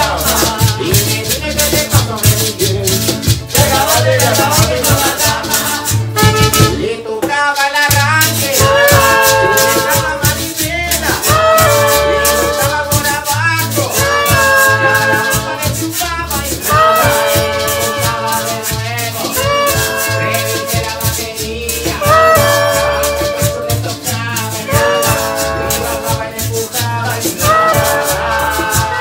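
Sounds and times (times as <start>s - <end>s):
bass line: 0.0s - 7.1s, 7.9s - 29.0s
acoustic guitar: 0.0s - 29.0s
man singing into a microphone: 0.0s - 29.0s
shaken metal percussion: 0.0s - 29.0s
trombone: 3.6s - 7.0s, 8.2s - 29.0s.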